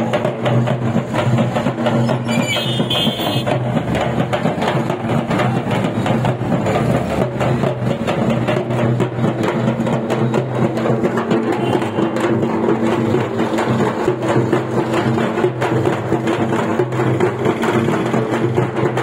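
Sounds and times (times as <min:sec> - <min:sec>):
frame drums beaten in fast rhythm: 0:00.0 - 0:19.0.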